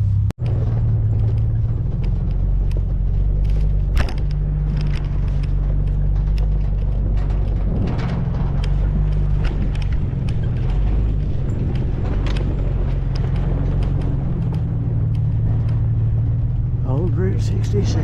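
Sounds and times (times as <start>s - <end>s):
car engine and road drone: 0.0s - 18.0s
light knocks and rattles: 0.4s - 18.0s.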